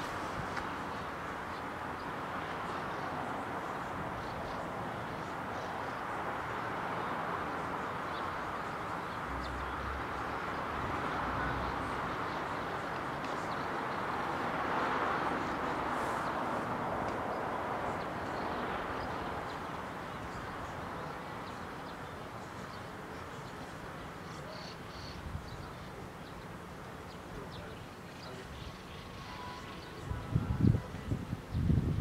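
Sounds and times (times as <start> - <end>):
distant outdoor rushing noise: 0.0 - 30.0.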